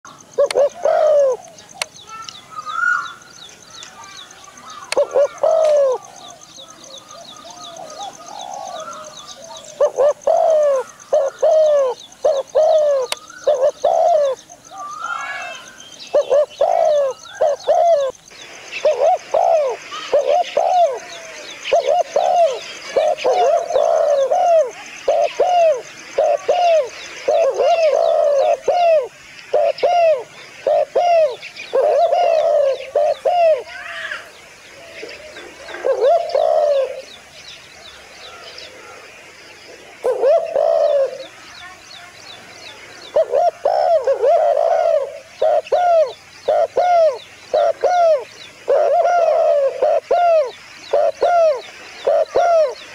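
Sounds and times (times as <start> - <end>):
small birds chirping: 0.0 - 52.9
dove cooing: 0.1 - 3.2, 4.0 - 37.3, 38.0 - 41.8, 42.7 - 52.9.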